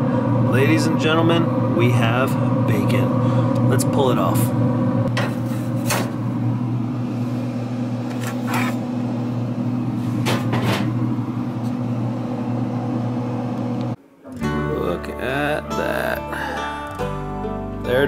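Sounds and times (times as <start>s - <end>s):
grill fan humming: 0.0s - 17.2s.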